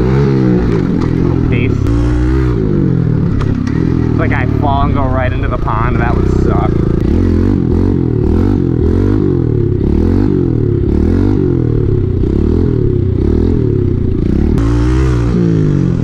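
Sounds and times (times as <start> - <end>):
small motorbike engine revving: 0.0 - 16.0.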